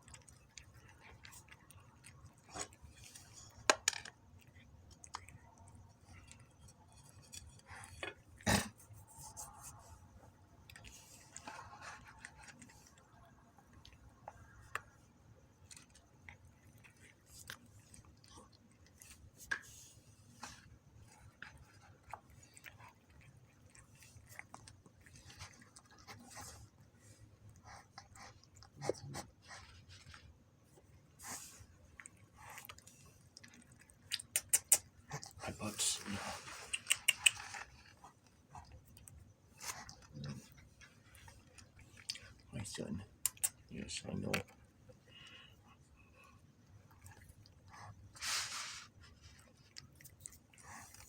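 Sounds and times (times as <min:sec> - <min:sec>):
cats chewing snacks: 0:00.0 - 0:51.0.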